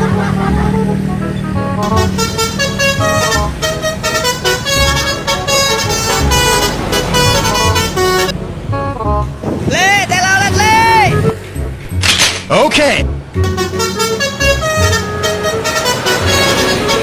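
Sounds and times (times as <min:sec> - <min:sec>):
bus air horns playing a tune: 0:00.0 - 0:09.4, 0:10.0 - 0:11.6, 0:13.3 - 0:17.0.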